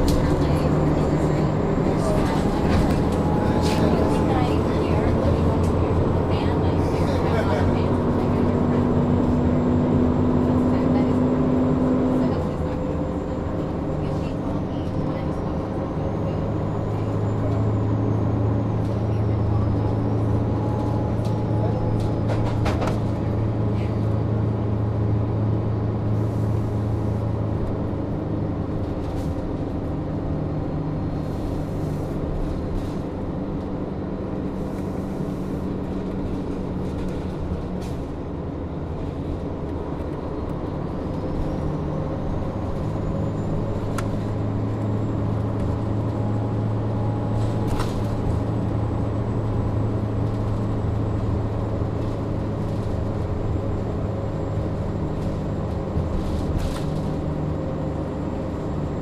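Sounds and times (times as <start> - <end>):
bus engine and fan drone: 0.0 - 59.0.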